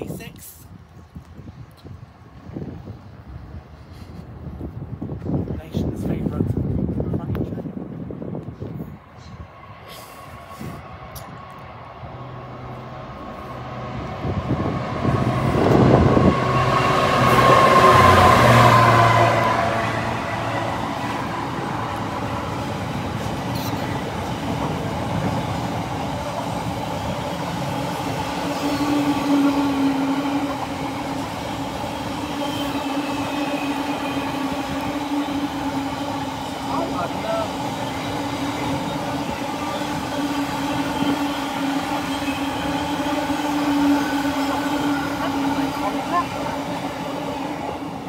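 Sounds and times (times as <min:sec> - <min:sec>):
freight train passing: 0:00.0 - 0:48.0.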